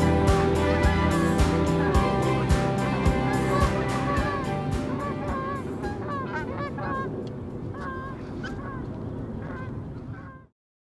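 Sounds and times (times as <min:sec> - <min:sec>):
geese honking: 0:00.0 - 0:10.5.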